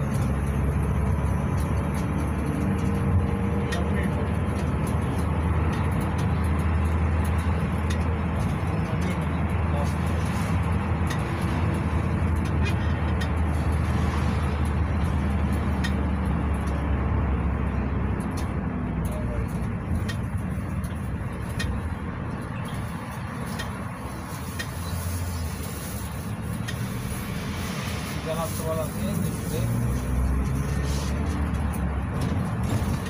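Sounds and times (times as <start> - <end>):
minibus engine drone: 0.0 - 33.0
road noise: 0.0 - 33.0.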